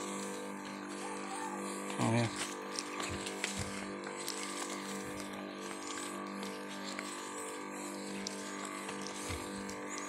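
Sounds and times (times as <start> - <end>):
sprayer pump humming: 0.0 - 10.0.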